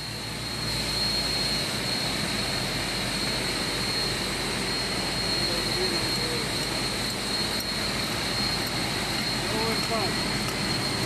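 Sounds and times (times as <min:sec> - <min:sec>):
high-pitched whine: 0:00.0 - 0:11.0
industrial machinery running: 0:00.0 - 0:11.0.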